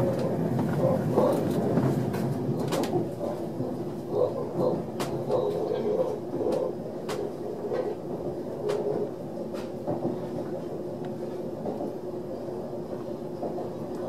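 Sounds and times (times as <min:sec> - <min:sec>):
wheels rumbling on track: 0:00.0 - 0:12.1.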